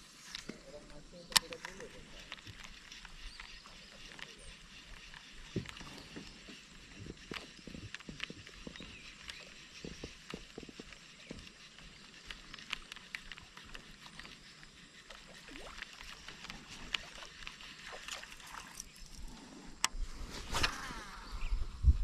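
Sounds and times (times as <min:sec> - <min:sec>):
small clicks and ticks: 0:00.2 - 0:19.9
water lapping against kayak hull: 0:01.4 - 0:19.5.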